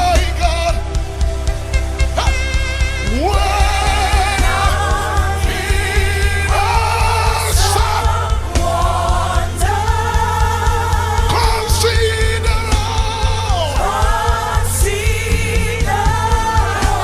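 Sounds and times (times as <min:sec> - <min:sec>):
band with low bass pulse: 0:00.0 - 0:17.0.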